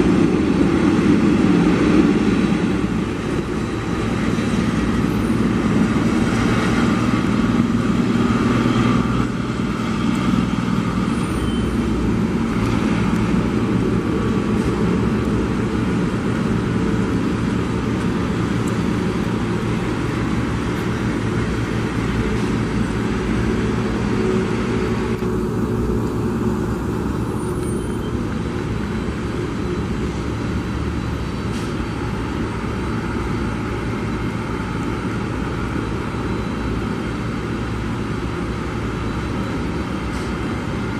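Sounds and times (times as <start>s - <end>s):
low engine rumble of traffic: 0.0s - 40.9s.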